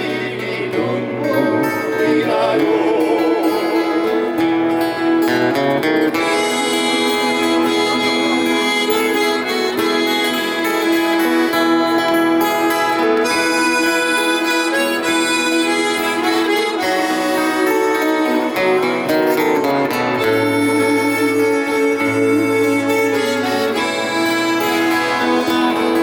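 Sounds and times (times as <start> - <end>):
acoustic guitar: 0.0 - 26.0
harmonica melody: 0.0 - 26.0.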